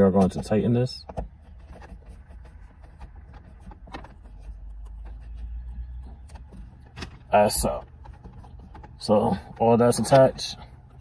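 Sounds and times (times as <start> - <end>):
low steady rumble: 0.4 - 11.0.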